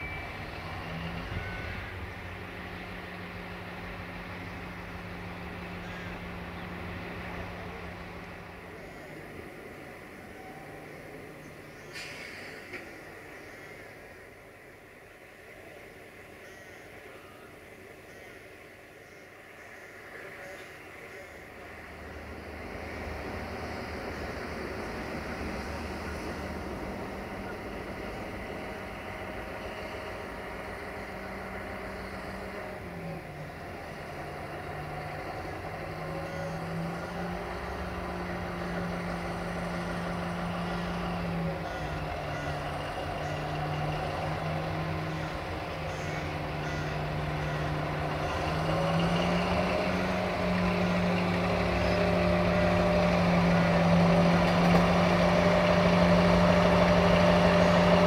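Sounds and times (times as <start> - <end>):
locomotive engine working: 0.0 - 58.0.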